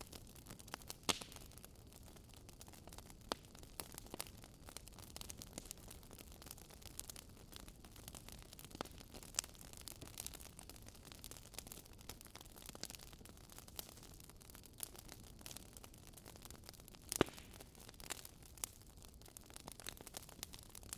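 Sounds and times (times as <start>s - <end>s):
fire pops and snaps: 0.0s - 20.9s
wood fire crackling: 0.0s - 20.9s.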